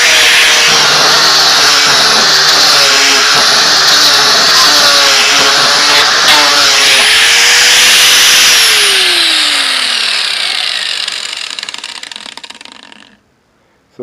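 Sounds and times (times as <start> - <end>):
grinder sanding wood: 0.0 - 13.1.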